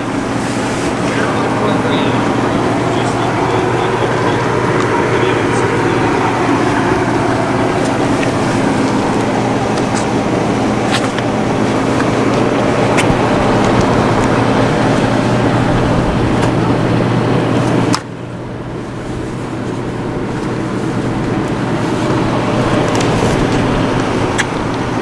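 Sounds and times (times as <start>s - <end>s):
low hum: 0.0s - 25.0s
road traffic rumble: 0.0s - 25.0s.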